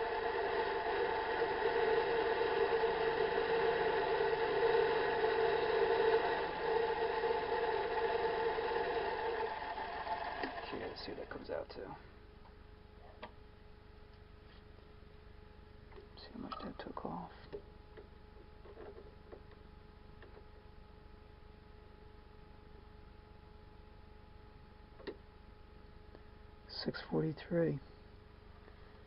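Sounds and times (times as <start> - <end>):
faint electrical hum: 0.0 - 29.0.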